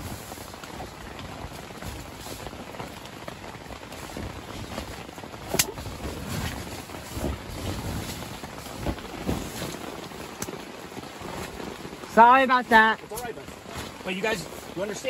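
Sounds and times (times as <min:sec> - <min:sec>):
fabric rustling: 0:01.8 - 0:15.0.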